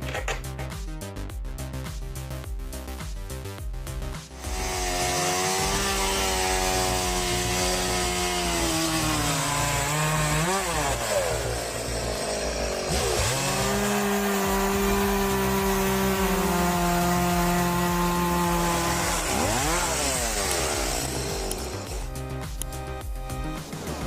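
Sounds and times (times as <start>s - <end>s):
chainsaw cutting wood: 4.3s - 24.0s.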